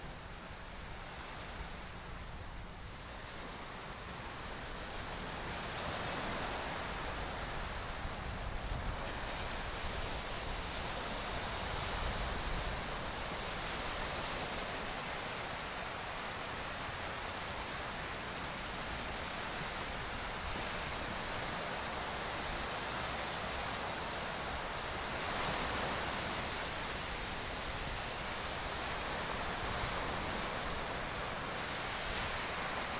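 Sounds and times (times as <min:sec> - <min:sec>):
small waves breaking on beach: 0:00.0 - 0:32.9.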